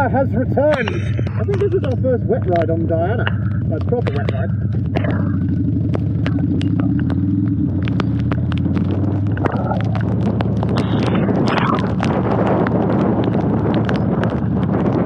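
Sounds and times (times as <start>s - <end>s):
motorcycle engine running: 0.0s - 15.0s
sharp ticks: 0.7s - 15.0s.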